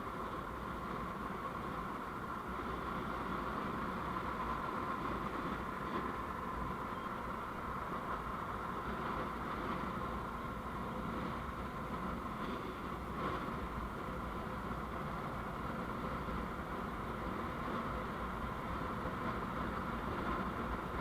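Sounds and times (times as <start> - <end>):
vehicle road and engine noise: 0.0 - 21.0.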